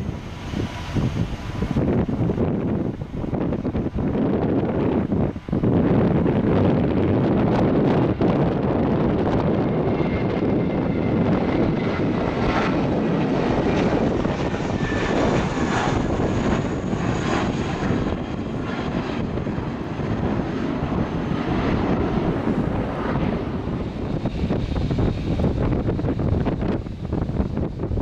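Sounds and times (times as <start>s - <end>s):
airliner engines rushing: 0.0s - 28.0s.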